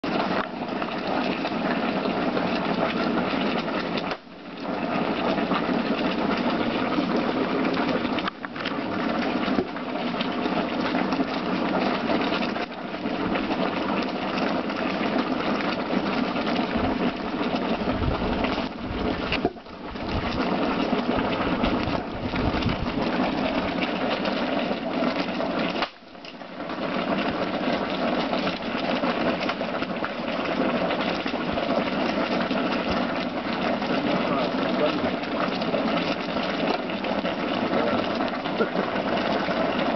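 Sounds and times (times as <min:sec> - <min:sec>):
pot bubbling at rolling boil: 0:00.0 - 0:39.9.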